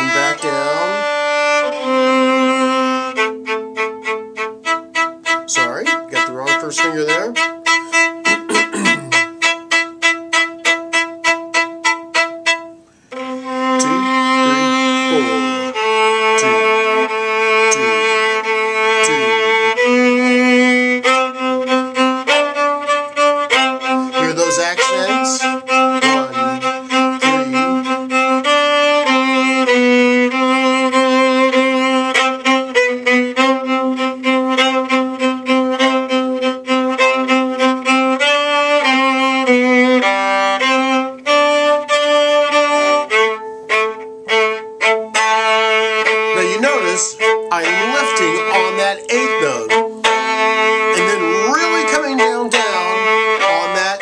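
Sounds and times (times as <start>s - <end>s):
viola playing bowed melody: 0.0s - 54.0s.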